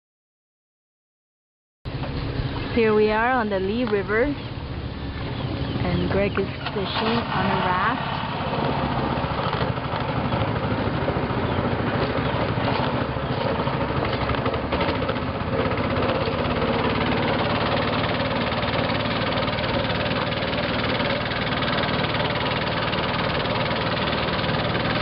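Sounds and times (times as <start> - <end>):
boat engine drone: 1.9 - 25.0.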